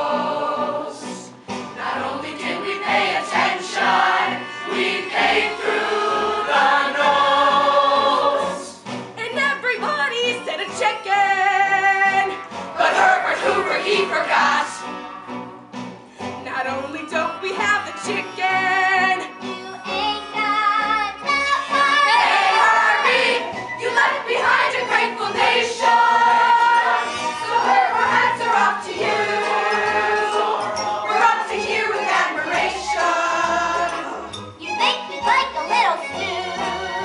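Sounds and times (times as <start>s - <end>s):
chorus singing show tune: 0.0s - 15.4s, 16.6s - 37.0s
instrumental accompaniment: 0.0s - 37.0s.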